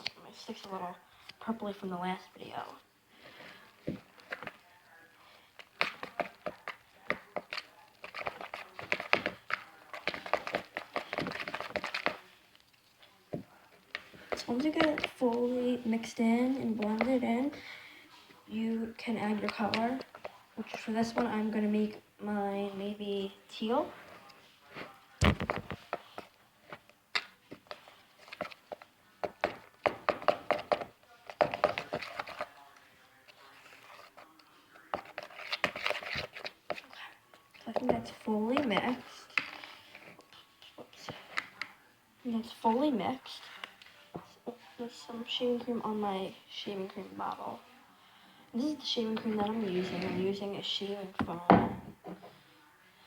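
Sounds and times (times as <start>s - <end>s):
stick stirring sticky glue mix: 2.4s - 47.6s.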